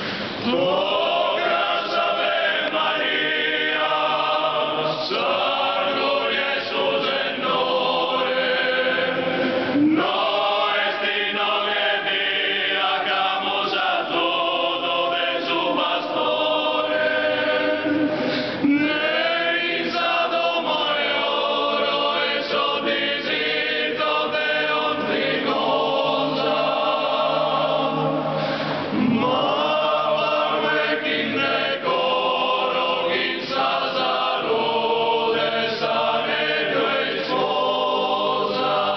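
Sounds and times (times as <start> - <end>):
male choir singing a cappella: 0.3 - 38.9.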